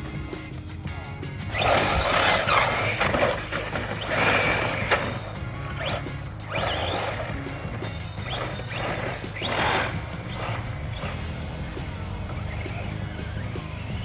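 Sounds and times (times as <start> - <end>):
background music: 0.0 - 14.0
toy truck motors whining: 0.0 - 14.0
tyre and dirt noise: 0.0 - 14.0.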